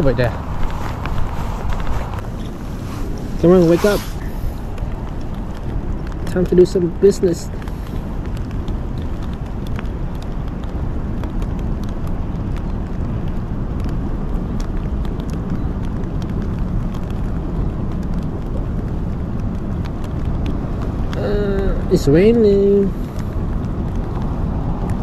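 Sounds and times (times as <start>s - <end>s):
raindrops ticking on rain jacket: 0.0s - 25.0s
wind rumble on microphone: 0.0s - 25.0s.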